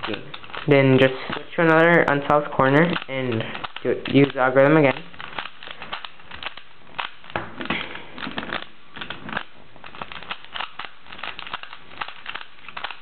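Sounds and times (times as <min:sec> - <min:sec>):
puzzle cube faces clicking: 0:00.0 - 0:13.0.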